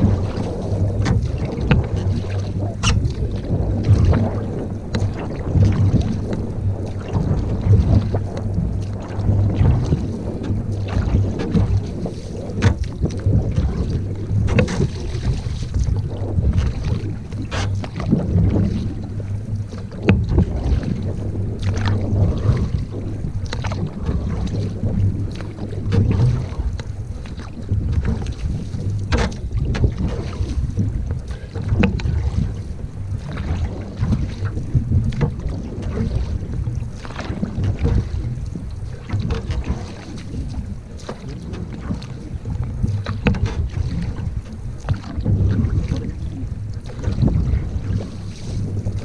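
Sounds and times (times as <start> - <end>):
paddle splashes and knocks: 0.0 - 49.0
wind on microphone: 0.0 - 49.0.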